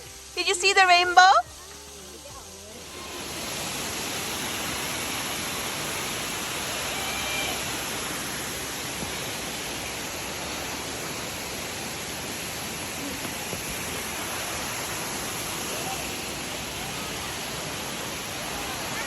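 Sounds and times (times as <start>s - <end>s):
waterfall: 0.0s - 19.0s.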